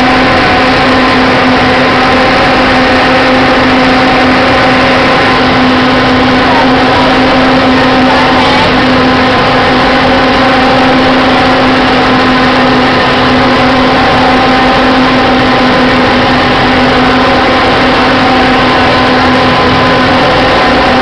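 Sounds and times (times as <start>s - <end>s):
boat engine droning: 0.0s - 21.0s
rush of noise: 0.0s - 21.0s.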